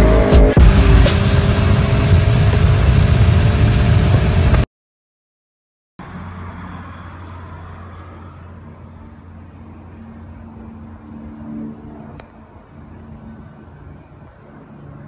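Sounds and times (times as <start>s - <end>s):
low motor hum: 0.0s - 4.7s, 7.5s - 15.0s.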